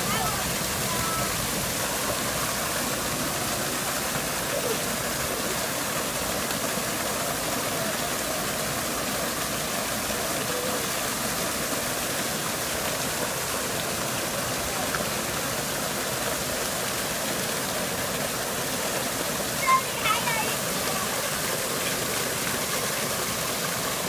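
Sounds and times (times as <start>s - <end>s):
waterfall splashing into pond: 0.0s - 24.0s.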